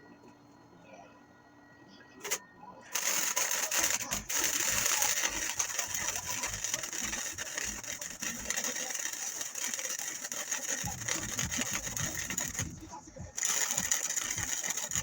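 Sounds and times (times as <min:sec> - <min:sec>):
welding arc crackling hiss: 0:02.2 - 0:15.0.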